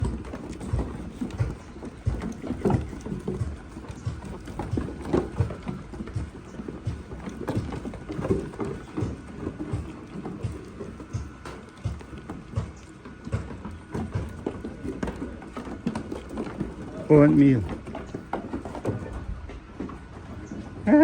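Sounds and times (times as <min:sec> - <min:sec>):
goat hooves knocking: 0:00.0 - 0:21.0.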